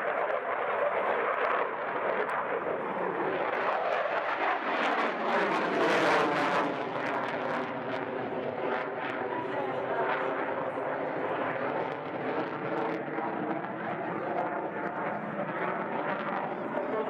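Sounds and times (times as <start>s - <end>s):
fighter jet flying overhead: 0.0s - 17.0s.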